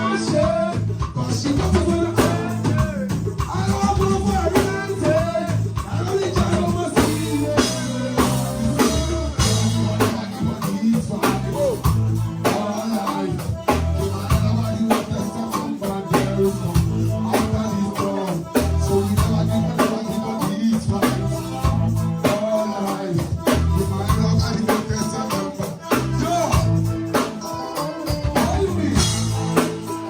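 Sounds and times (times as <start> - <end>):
live reggae band playing: 0.0 - 30.0.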